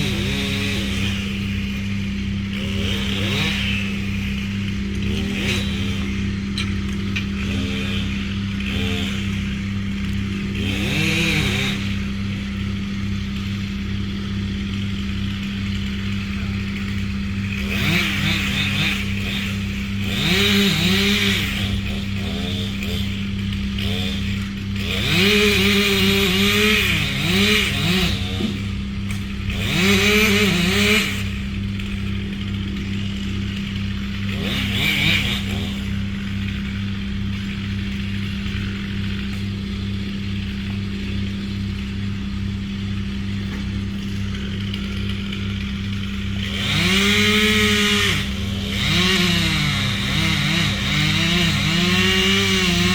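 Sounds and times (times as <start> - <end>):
chainsaw revving: 0.0 - 52.9
low engine hum: 0.0 - 52.9.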